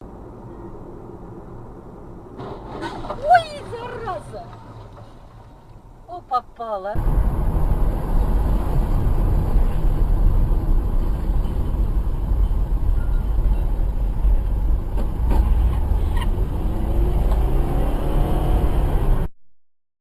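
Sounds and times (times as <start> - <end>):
vehicle engine and road noise: 0.0 - 19.3.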